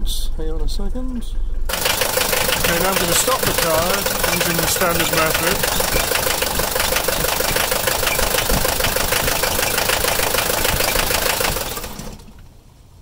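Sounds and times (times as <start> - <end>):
engine running down to stop: 1.7 - 12.5
diesel engine idling clatter: 1.7 - 12.6.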